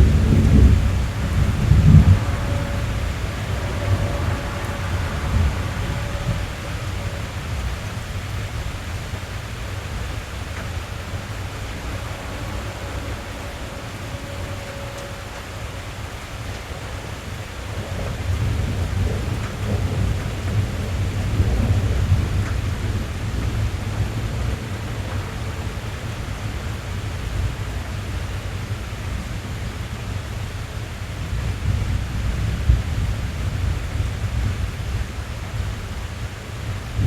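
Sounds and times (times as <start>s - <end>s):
rain drumming on car roof: 0.0s - 37.0s
thunder rumbling: 0.0s - 37.0s.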